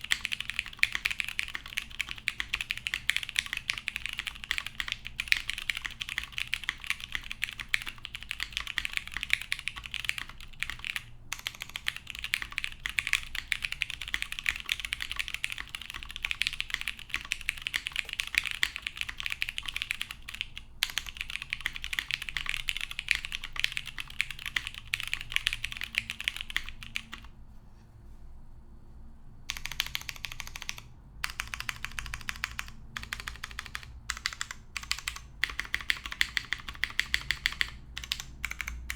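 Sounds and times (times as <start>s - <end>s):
mechanical keyboard typing: 0.0s - 27.3s, 29.5s - 38.9s.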